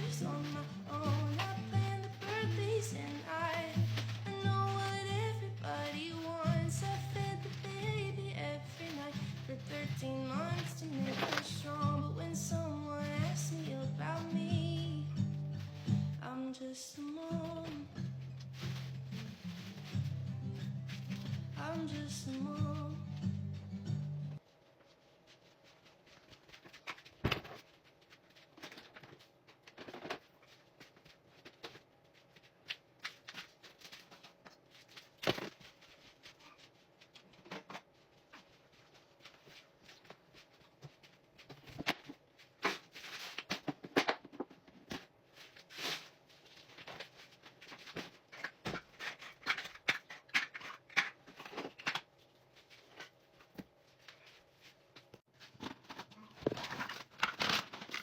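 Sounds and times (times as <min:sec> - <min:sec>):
rustling: 0:00.0 - 0:58.0.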